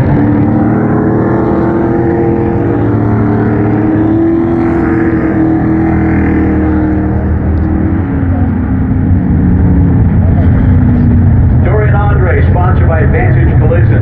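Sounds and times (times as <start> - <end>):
race truck engines droning: 0.0 - 14.0.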